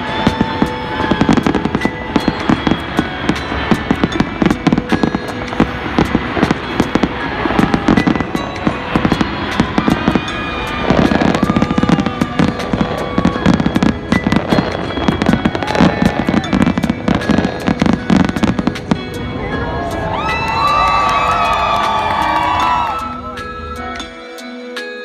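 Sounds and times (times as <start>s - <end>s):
whistling rockets: 0.0s - 24.0s
fireworks bangs and crackles: 0.0s - 24.2s.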